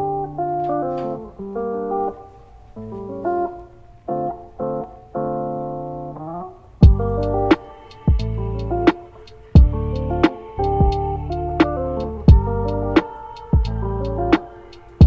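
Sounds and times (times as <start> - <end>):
plucked guitar chords: 0.0 - 15.0.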